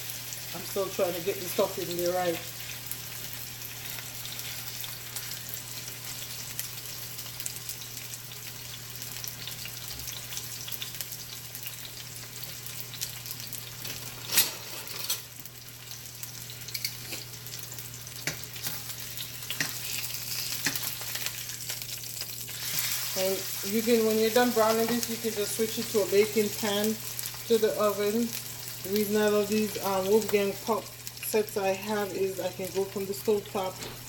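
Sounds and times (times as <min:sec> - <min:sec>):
chicken sizzling in hot oil: 0:00.0 - 0:34.0.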